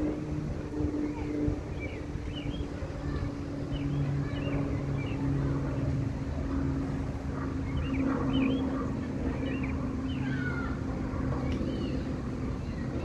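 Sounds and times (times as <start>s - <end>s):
propeller plane drone: 0.0s - 13.0s
birds chirping: 0.8s - 13.0s.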